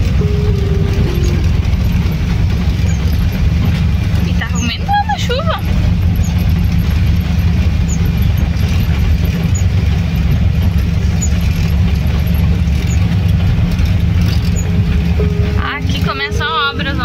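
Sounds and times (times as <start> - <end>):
engine droning: 0.0 - 17.0
windscreen wipers squeaking: 0.0 - 17.0.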